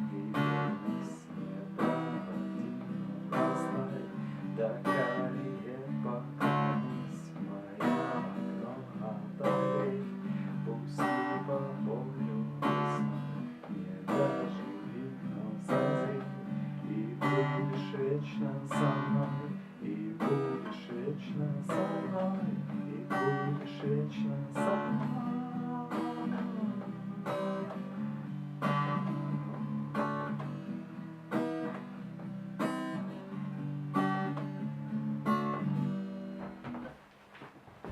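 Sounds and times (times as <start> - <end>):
acoustic guitar strumming: 0.0 - 37.9.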